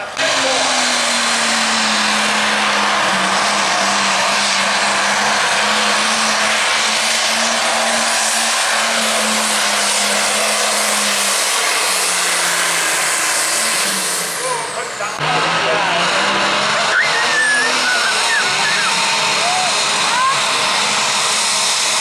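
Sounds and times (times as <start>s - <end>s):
diesel engine running at high revs: 0.0s - 22.0s.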